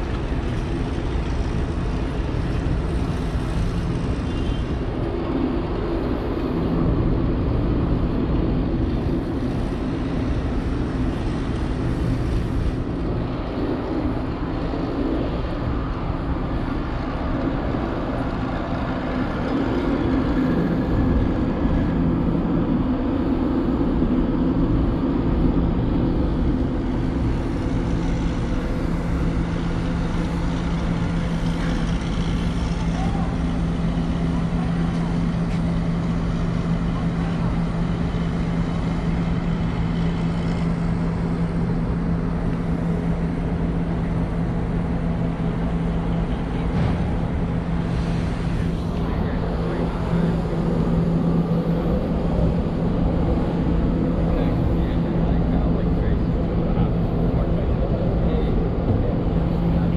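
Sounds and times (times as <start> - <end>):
low mechanical hum: 0.0 - 59.9
rumble of city noise: 0.0 - 59.9.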